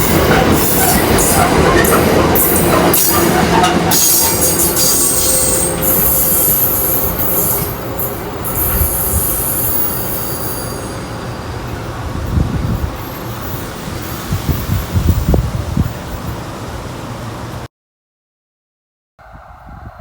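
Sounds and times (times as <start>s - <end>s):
low rumble of train: 0.0s - 17.7s, 19.2s - 20.0s
train wheels hissing on rails: 0.0s - 17.7s.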